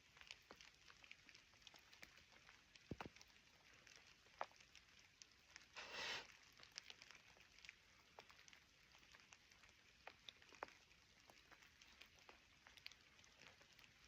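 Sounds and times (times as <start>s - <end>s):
light rain dripping: 0.0s - 14.0s
soft hiss: 1.4s - 14.0s.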